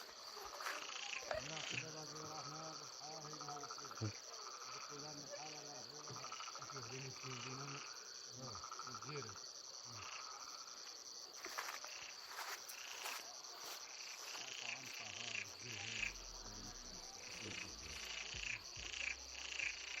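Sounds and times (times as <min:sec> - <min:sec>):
frogs croaking: 0:00.0 - 0:20.0
high insect trill: 0:00.0 - 0:20.0.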